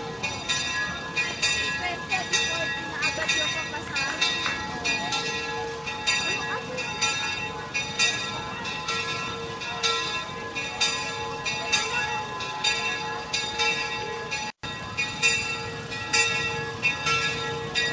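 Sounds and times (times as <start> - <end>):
church bell ringing: 0.0 - 17.9.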